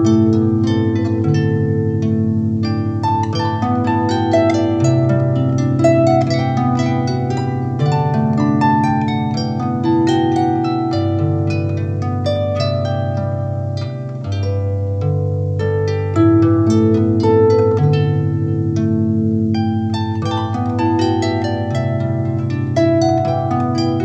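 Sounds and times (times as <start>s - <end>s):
solo harp playing: 0.0s - 24.0s.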